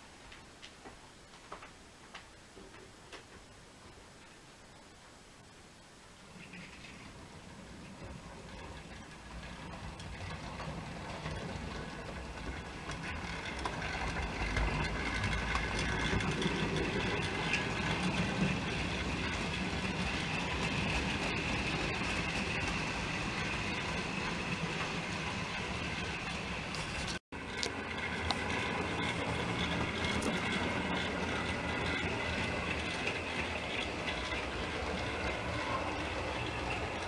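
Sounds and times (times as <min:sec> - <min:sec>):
model train wheels rattling on rails: 0:06.3 - 0:37.0.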